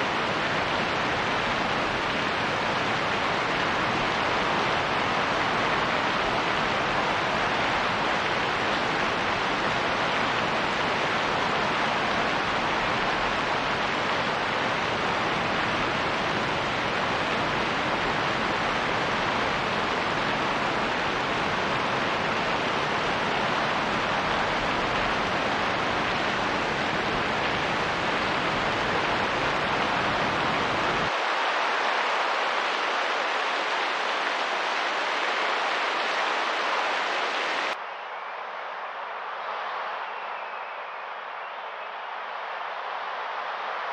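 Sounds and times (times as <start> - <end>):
rain: 0.0 - 40.5, 41.2 - 43.9.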